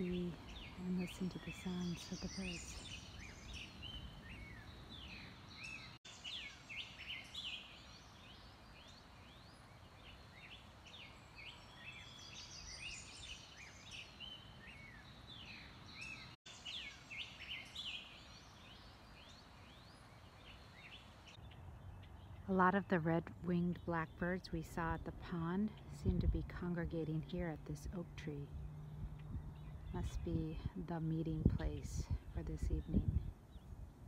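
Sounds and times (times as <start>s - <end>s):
faint outdoor background: 0.0s - 34.0s
wild birds chirping: 0.0s - 34.0s.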